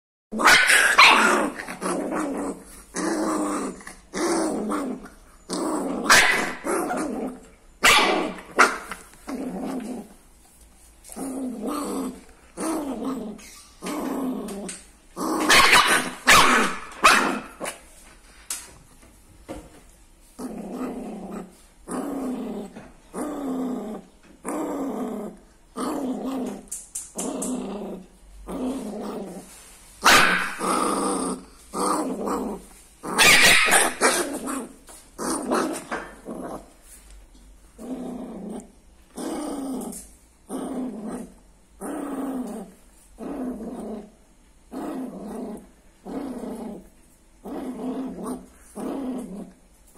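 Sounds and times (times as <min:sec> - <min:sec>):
dog growling and snarling: 0:00.3 - 0:07.5, 0:08.1 - 0:10.2, 0:11.1 - 0:17.7, 0:20.4 - 0:29.5, 0:30.2 - 0:36.8, 0:37.8 - 0:49.6.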